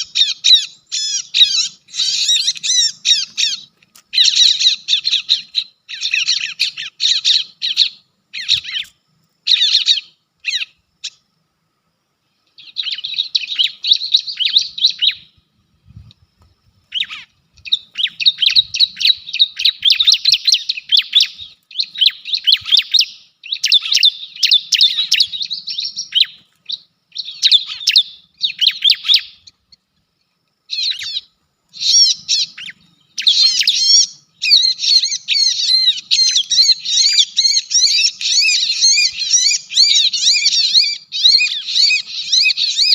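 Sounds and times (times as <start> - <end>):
birds chattering chirps: 0.0 - 11.5, 12.2 - 42.9.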